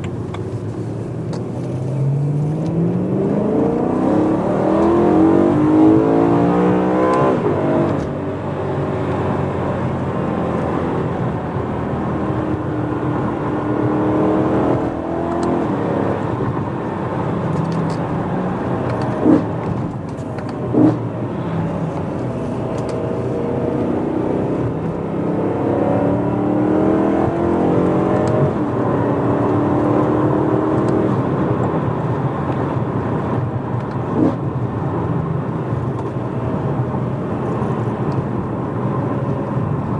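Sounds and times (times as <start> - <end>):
car engine revving in cabin: 0.0 - 39.9.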